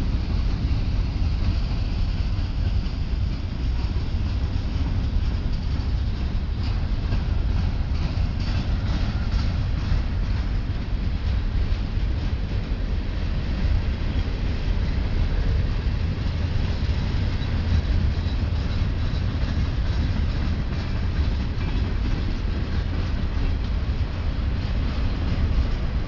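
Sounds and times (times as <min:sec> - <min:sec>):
train wheels rumbling: 0:00.0 - 0:26.0
wheels clacking: 0:00.0 - 0:26.0.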